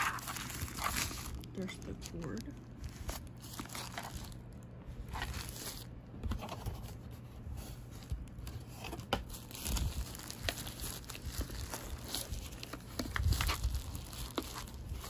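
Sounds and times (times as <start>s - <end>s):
plastic bag crinkling: 0.0s - 6.1s, 7.9s - 15.0s.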